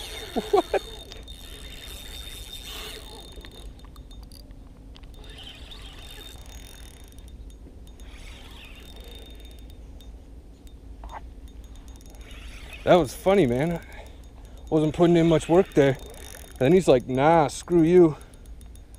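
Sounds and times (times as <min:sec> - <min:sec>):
fishing reel whirring and clicking: 0:00.0 - 0:18.9.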